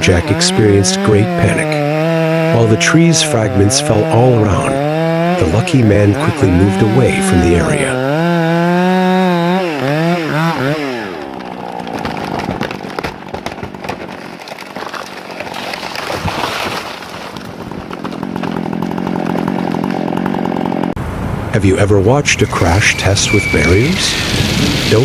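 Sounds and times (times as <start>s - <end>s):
chainsaw revving: 0.0s - 21.0s, 23.1s - 25.0s.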